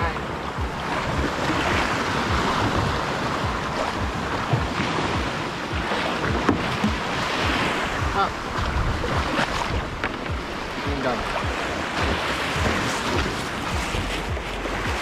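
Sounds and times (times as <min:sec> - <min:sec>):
sea water washing around kayak: 0:00.0 - 0:15.0
wind buffeting microphone: 0:00.0 - 0:15.0.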